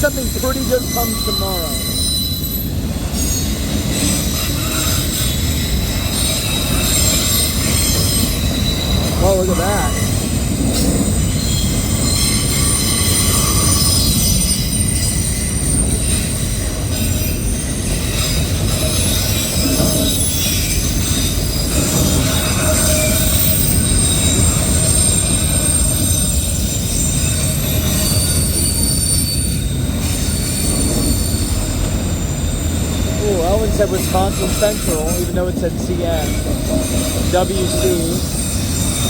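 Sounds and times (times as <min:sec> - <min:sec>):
high-pitched wheel squeals: 0:00.0 - 0:39.0
steel wheels rumbling on rail: 0:00.0 - 0:39.0.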